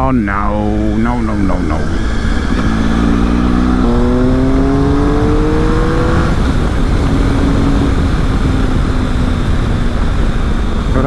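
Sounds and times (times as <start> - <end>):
motorcycle engine accelerating: 0.0 - 11.0
wind rush on microphone: 0.0 - 11.0.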